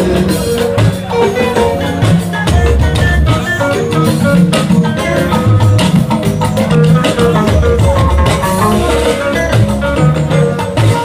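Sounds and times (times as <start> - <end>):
bass line: 0.0 - 11.0
drums keeping beat: 0.0 - 11.0.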